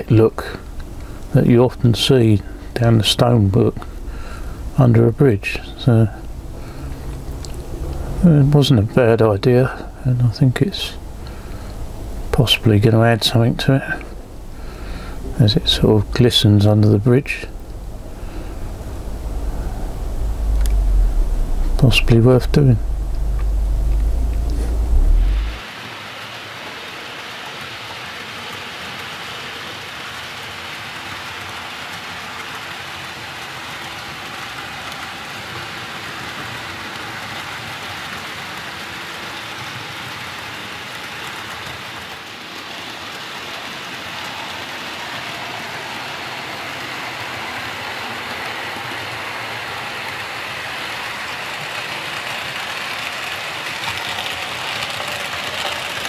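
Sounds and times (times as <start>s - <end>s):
model train wheels rumbling: 0.0s - 56.0s.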